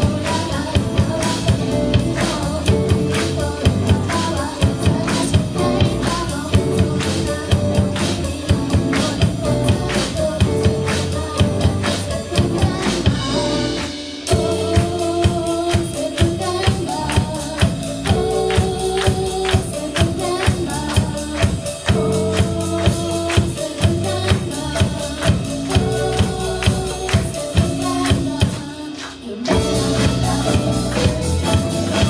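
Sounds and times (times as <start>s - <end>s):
bass guitar: 0.0s - 32.0s
drum kit beat: 0.0s - 32.0s
electric guitars: 0.0s - 32.0s.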